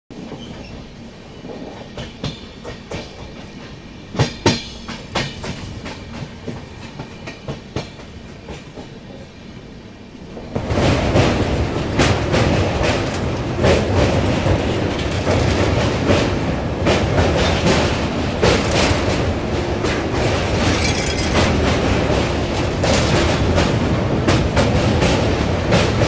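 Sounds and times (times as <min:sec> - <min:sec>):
train wheels clacking on rails: 0:00.1 - 0:09.2, 0:10.4 - 0:26.0
train rumbling on steel bridge: 0:00.1 - 0:26.0.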